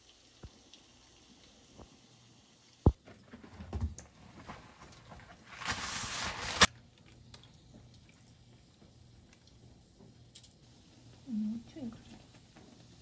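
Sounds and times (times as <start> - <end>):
oil bubbling hiss: 0.0 - 13.0.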